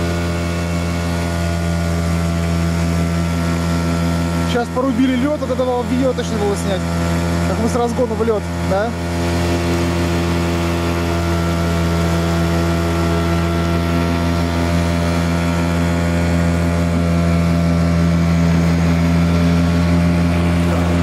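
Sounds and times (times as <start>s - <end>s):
outboard motor running: 0.0s - 21.0s.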